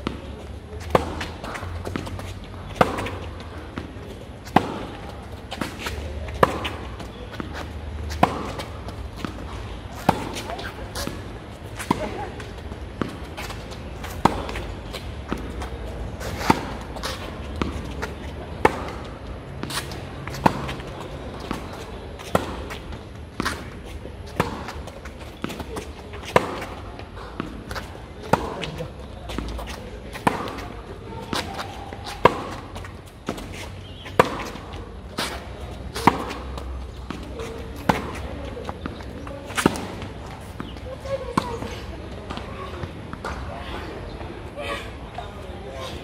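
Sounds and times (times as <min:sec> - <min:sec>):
rackets hitting tennis ball: 0:00.0 - 0:43.6.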